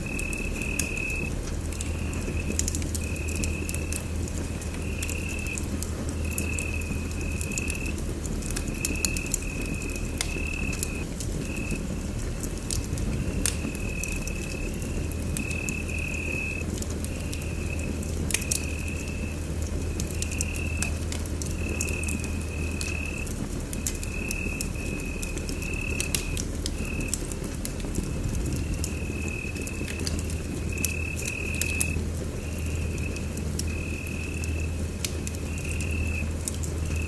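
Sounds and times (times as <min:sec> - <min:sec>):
fire crackling and popping: 0:00.0 - 0:37.0
rumble of fire flames: 0:00.0 - 0:37.0.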